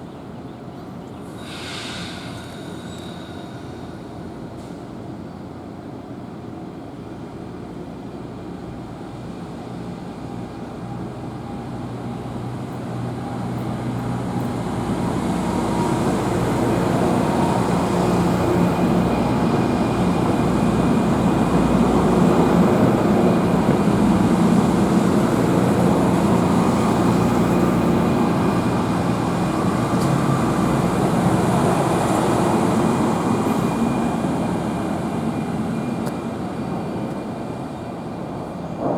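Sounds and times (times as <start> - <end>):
train rumbling through station: 0.0 - 38.9.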